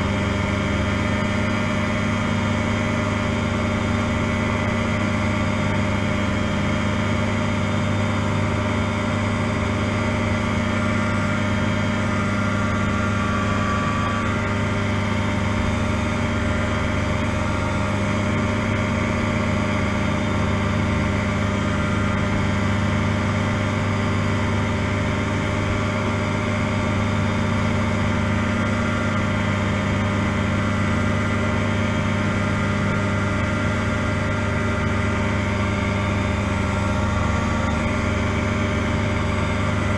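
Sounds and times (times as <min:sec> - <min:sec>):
ultralight aircraft engine running: 0:00.0 - 0:39.9.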